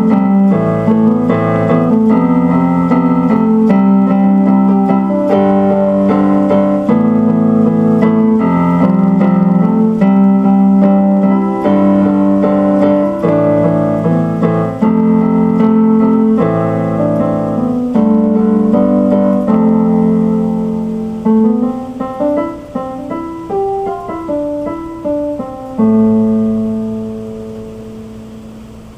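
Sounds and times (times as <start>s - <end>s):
piano music: 0.0s - 28.9s.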